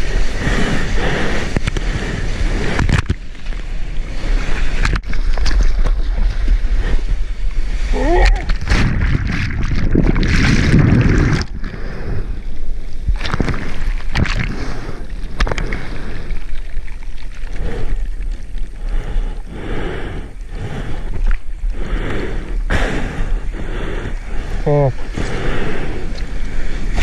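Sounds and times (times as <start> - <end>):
muffled underwater rumble: 0.0 - 27.0.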